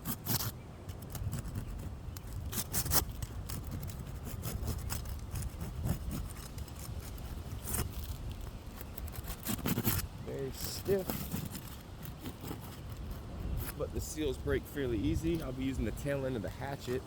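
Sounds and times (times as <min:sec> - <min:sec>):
shingles scraping and cracking: 0:00.0 - 0:14.3.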